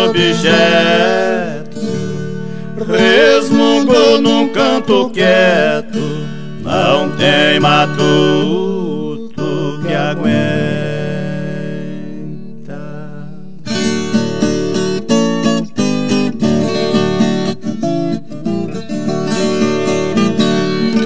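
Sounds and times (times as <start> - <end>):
acoustic guitars strumming: 0.0 - 21.0.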